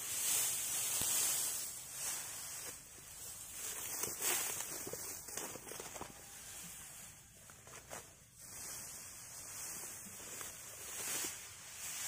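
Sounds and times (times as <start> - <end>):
steady high hiss: 0.0 - 5.3, 5.9 - 12.0
straw rustling: 0.0 - 12.0.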